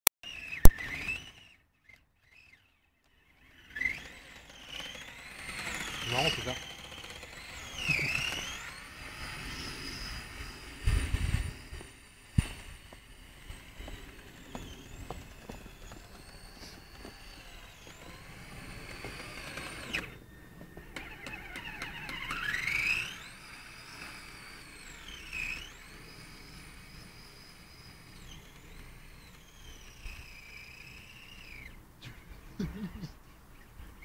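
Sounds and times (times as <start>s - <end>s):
electric motor and gearbox whining: 0.2s - 34.0s.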